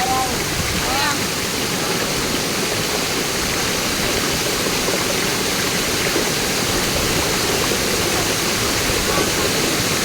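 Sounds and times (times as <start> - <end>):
stream and waterfall rushing: 0.0 - 10.0.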